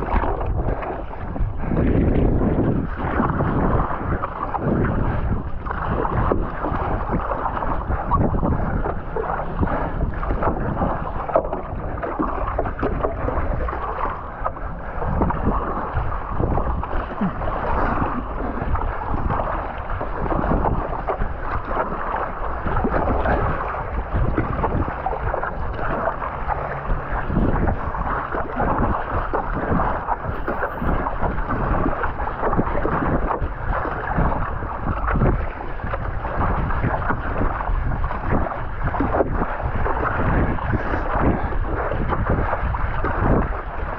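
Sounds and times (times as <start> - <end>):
choppy water splashing: 0.0 - 43.9
wind buffeting microphone: 0.0 - 43.9.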